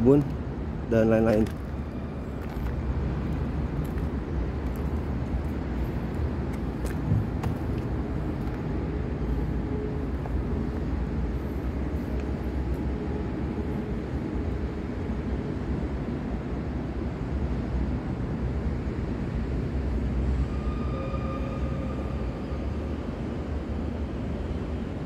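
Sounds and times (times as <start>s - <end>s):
low background rumble: 0.0s - 20.4s.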